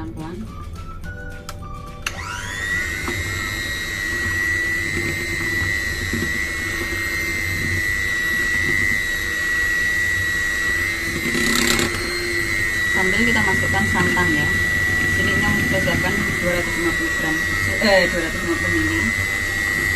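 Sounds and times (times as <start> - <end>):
electric mixer whining: 1.9 - 19.9.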